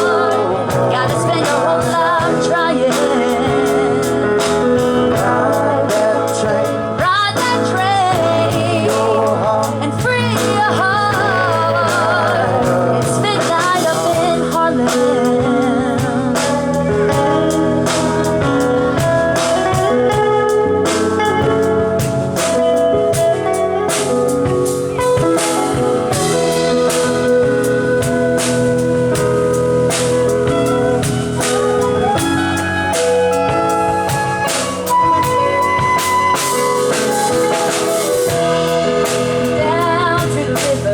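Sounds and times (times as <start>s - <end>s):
person singing with vibrato: 0.0s - 20.5s, 25.1s - 40.9s
drum kit hits: 0.0s - 40.9s
soul band playing: 0.0s - 40.9s.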